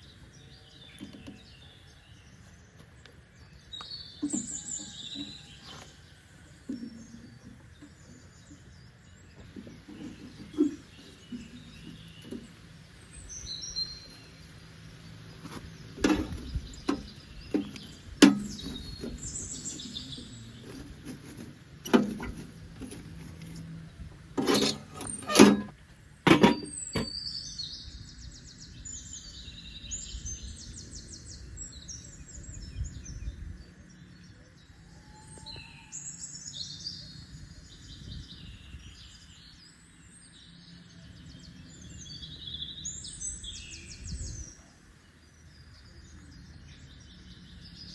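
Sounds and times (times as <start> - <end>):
birds chirping: 0.0 - 47.9
outdoor background noise: 0.0 - 47.9.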